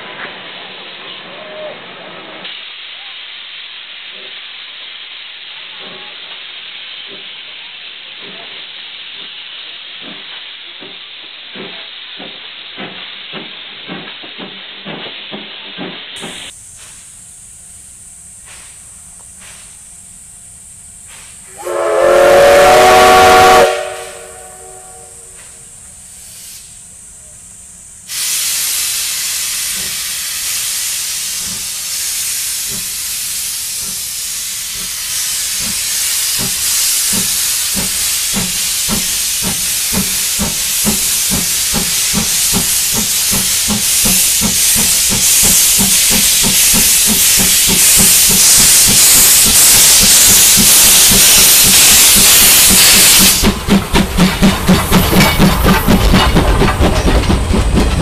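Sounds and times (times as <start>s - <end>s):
steam hiss: 0.0s - 58.0s
steam locomotive exhaust chuff: 3.7s - 58.0s.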